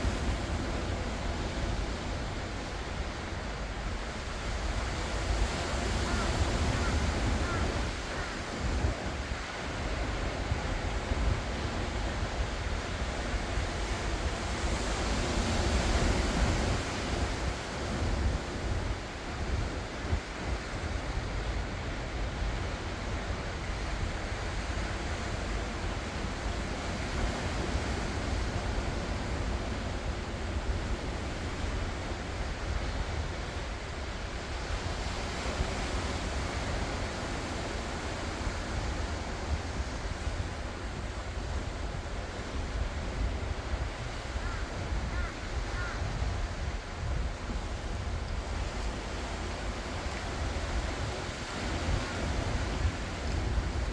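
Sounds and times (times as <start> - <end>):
ocean waves breaking on shore: 0.0 - 53.9
wind rumbling on microphone: 0.0 - 53.9.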